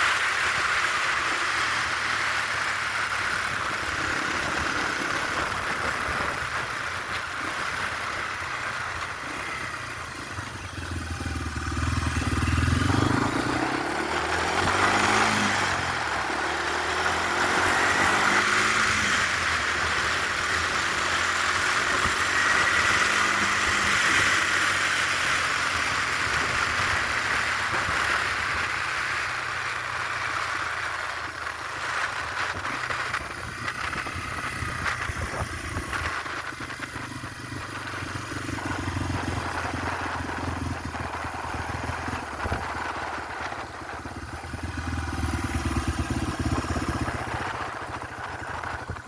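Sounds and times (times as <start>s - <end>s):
motorcycle engine running: 0.0s - 49.0s
wind noise: 0.0s - 49.0s.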